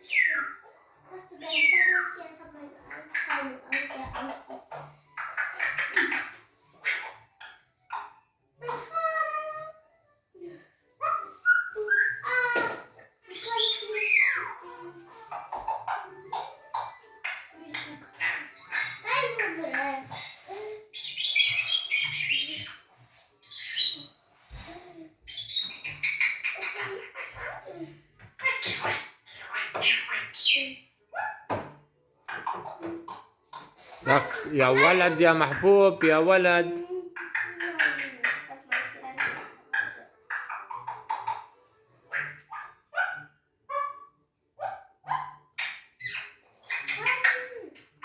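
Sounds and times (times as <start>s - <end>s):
parrot chick chirping: 0.0s - 0.8s, 1.4s - 2.3s, 2.9s - 8.3s, 11.0s - 24.2s, 25.2s - 31.6s, 32.3s - 47.7s.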